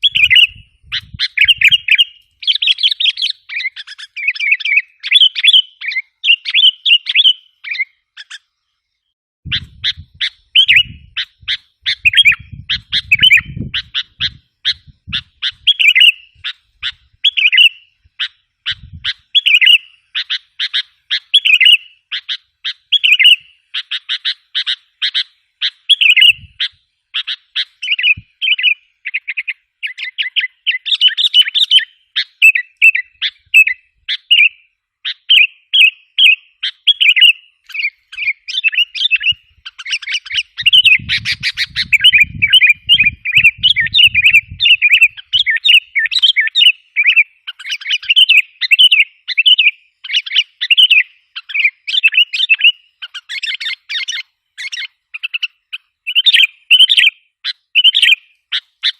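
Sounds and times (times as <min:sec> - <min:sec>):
bulbul chirping: 0:00.0 - 0:08.5, 0:09.5 - 0:57.1.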